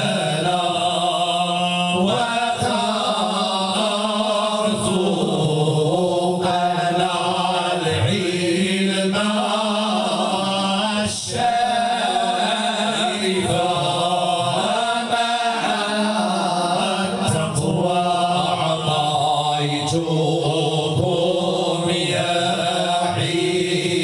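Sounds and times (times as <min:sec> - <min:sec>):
men chanting a cappella: 0:00.0 - 0:24.0.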